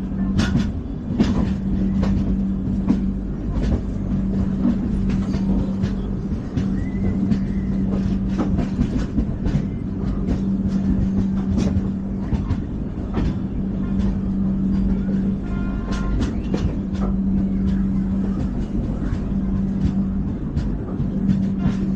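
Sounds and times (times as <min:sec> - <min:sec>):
steady low hum: 0:00.0 - 0:21.9
train wheels rumbling on rail: 0:00.0 - 0:21.9.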